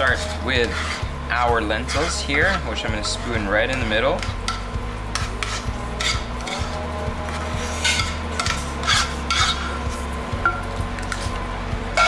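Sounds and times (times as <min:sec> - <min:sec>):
spoon scraping a pan: 0:00.0 - 0:10.2, 0:11.0 - 0:12.0
background music: 0:00.0 - 0:12.0.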